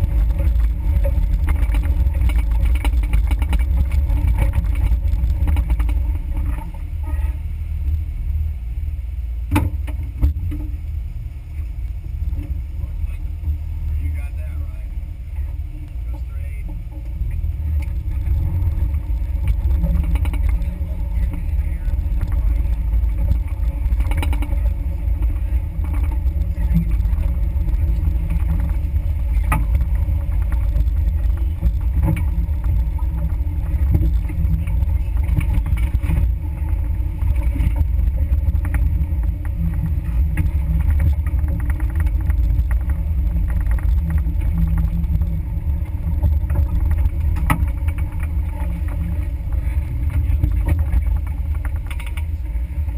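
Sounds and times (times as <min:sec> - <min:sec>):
vehicle knocks and rattles: 0:00.0 - 0:06.9, 0:09.5 - 0:10.8, 0:15.4 - 0:52.9
low engine rumble: 0:00.0 - 0:52.9.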